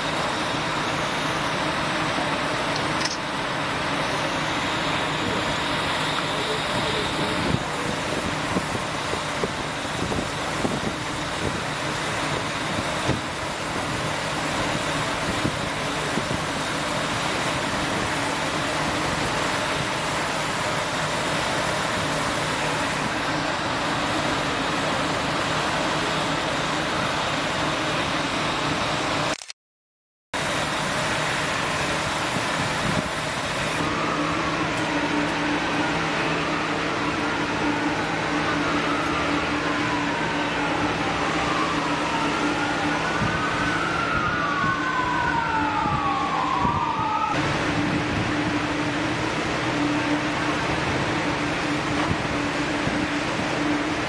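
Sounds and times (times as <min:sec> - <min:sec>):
emergency sirens wailing: 0:00.0 - 0:29.2, 0:30.4 - 0:54.0
fire truck engine droning: 0:00.0 - 0:29.3, 0:30.4 - 0:54.0.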